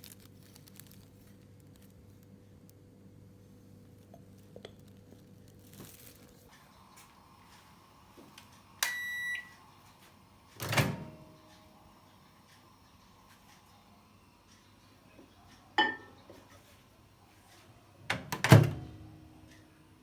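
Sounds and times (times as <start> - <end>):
low appliance hum: 0.0 - 20.0.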